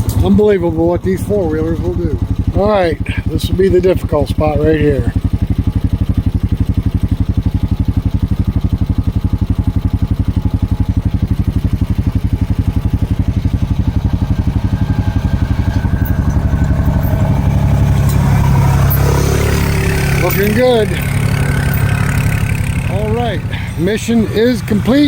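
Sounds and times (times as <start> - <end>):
atv engine pulsing and revving: 0.0 - 25.0.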